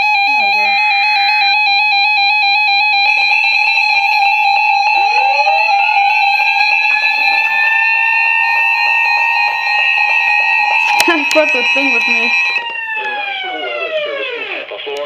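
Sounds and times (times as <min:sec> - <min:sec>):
alarm tone sweeping up: 0:00.0 - 0:14.6
electronic alarm beeping: 0:00.0 - 0:14.6.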